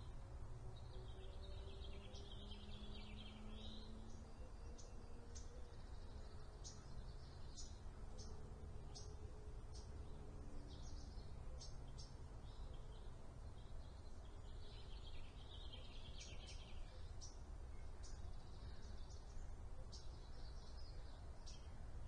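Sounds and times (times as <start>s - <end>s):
small birds chirping and twittering: 0.0s - 22.0s.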